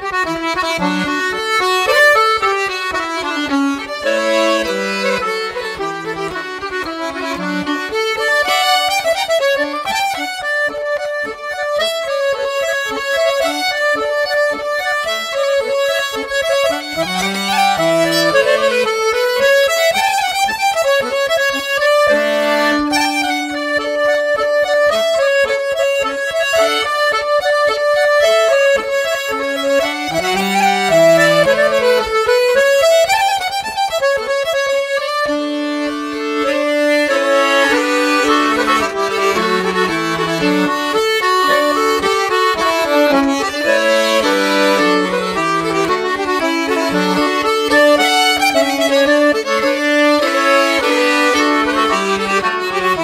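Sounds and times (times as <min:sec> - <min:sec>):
accordion melody background music: 0:00.0 - 0:53.0.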